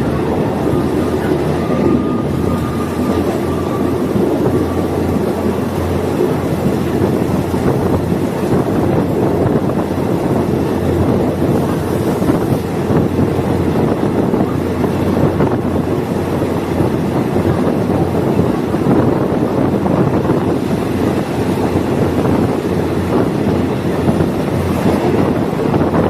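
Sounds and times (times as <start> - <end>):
train rumbling on track: 0.0 - 26.0
wind noise on microphone: 0.0 - 26.0.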